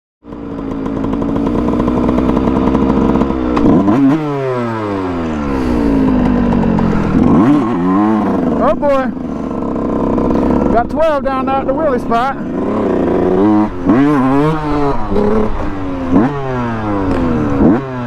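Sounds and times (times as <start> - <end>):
dirt bike engine revving: 0.3 - 18.0.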